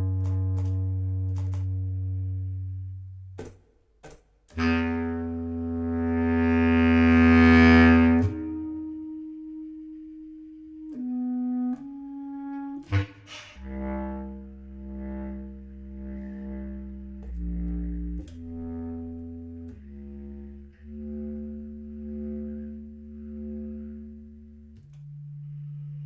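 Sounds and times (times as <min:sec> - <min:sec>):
bass clarinet playing: 0:00.0 - 0:03.1, 0:04.5 - 0:26.0.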